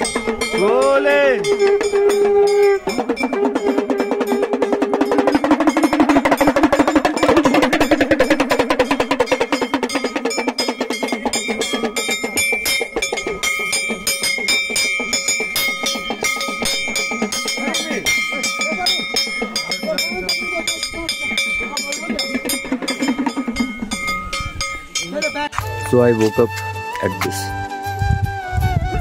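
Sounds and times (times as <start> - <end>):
high ringing tones: 0.0 - 25.5
rapid hand drumming: 0.0 - 25.5.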